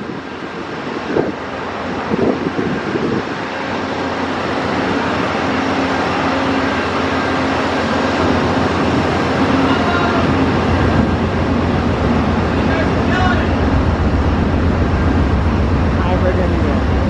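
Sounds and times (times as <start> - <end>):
passenger train humming: 0.0 - 17.0.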